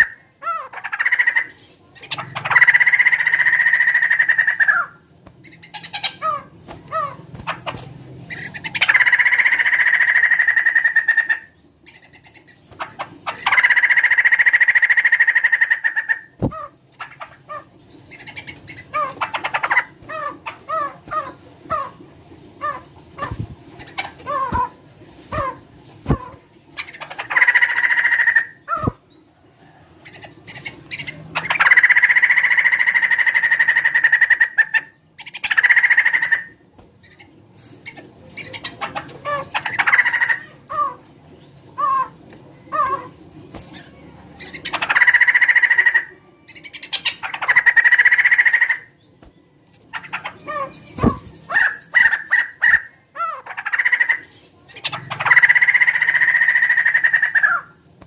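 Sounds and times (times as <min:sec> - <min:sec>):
bird harsh calls: 0:00.0 - 0:29.1, 0:30.0 - 0:57.8.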